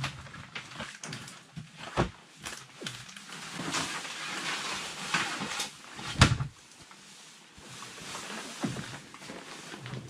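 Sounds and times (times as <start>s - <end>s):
rustling: 0.0s - 10.0s.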